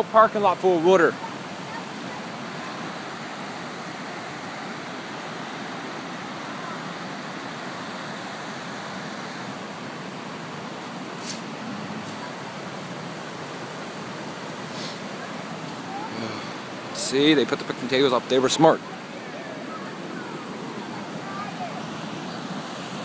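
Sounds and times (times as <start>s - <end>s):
creek rushing: 0.0s - 23.0s.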